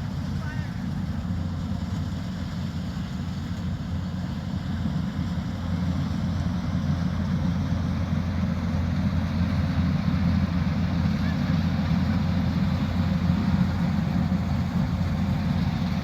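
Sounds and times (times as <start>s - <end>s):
combine harvester engine and machinery: 0.0s - 16.0s.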